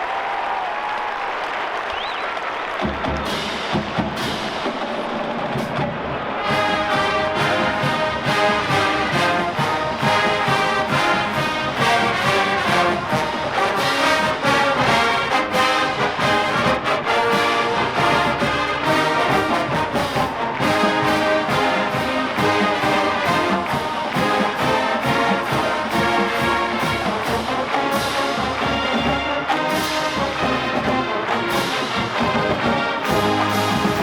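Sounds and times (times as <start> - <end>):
drumline beat: 2.4 - 34.0
trumpets and trombones: 5.4 - 34.0.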